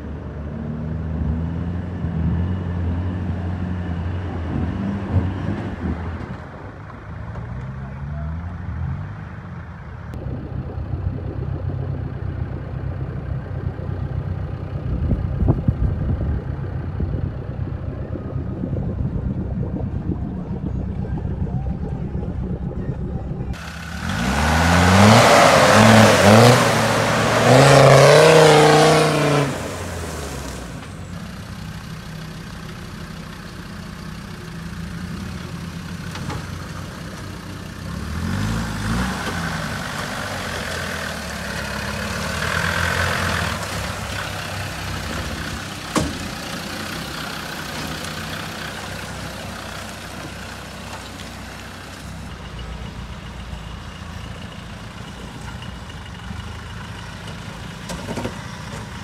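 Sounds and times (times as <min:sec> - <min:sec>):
diesel engine labouring and revving: 0:00.0 - 0:59.0.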